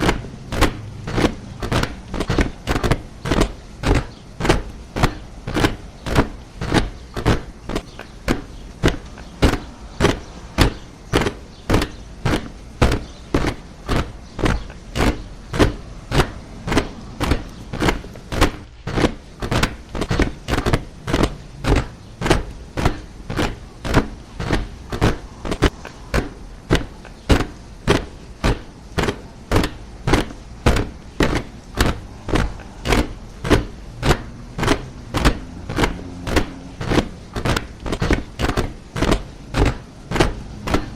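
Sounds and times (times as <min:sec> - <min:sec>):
soldiers marching in step: 0:00.0 - 0:40.9.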